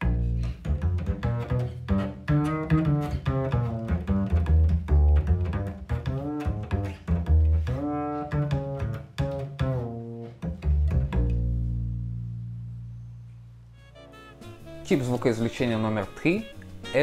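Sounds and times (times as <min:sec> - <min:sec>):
double bass plucked jazz line: 0:00.0 - 0:17.0.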